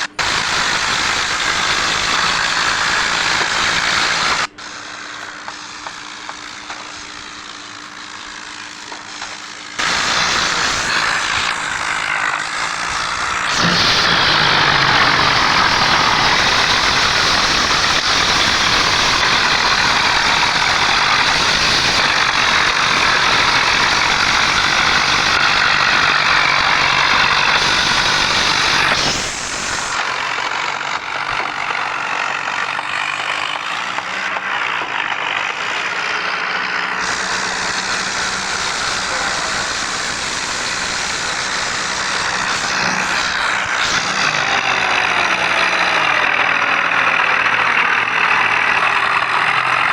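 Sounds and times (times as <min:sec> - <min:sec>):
heavy diesel engines running hard: 0:00.0 - 0:49.9.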